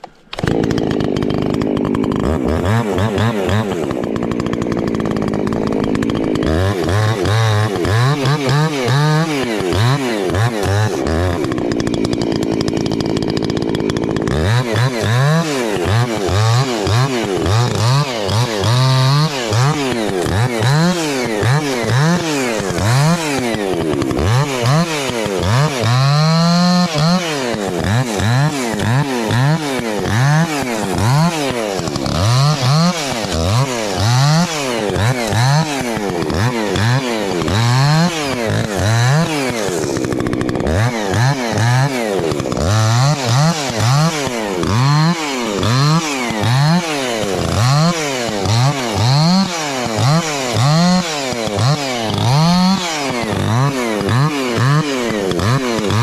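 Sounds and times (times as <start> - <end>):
chainsaw revving and cutting: 0.0 - 56.0.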